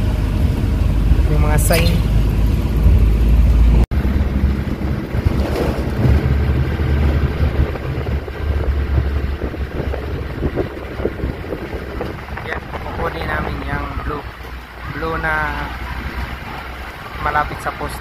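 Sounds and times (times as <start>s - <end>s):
moving truck rumble: 0.0s - 18.0s
wind buffeting microphone: 0.0s - 18.0s.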